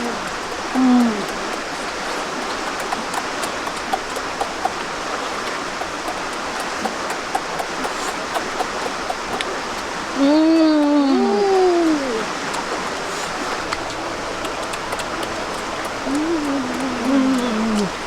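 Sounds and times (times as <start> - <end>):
faint clicks: 0.0 - 10.9, 11.9 - 18.0
running water rushing: 0.0 - 18.0.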